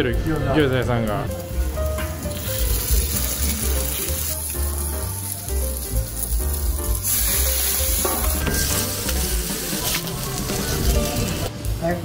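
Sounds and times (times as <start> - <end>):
dumplings sizzling on a griddle: 1.4 - 11.5.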